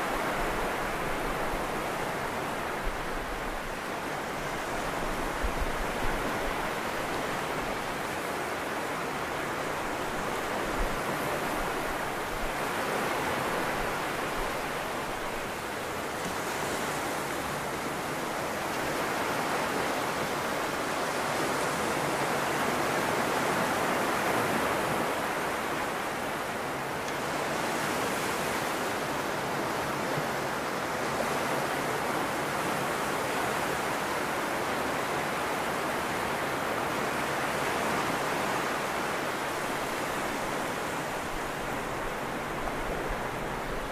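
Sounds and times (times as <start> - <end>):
small waves breaking on beach: 0.0 - 43.9.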